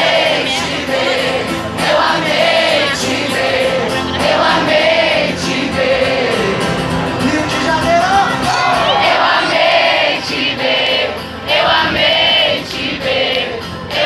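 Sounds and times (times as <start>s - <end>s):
audience singing along: 0.0s - 14.0s
live music with singing: 0.0s - 14.0s.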